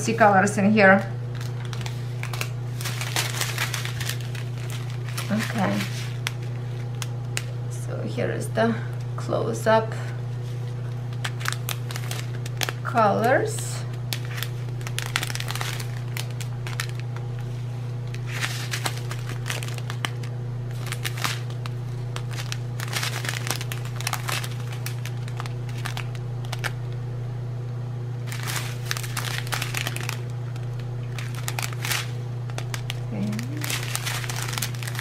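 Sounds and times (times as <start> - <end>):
steady low hum: 0.0 - 35.0
plastic bags crinkling: 1.3 - 7.6, 10.4 - 26.9, 28.2 - 35.0.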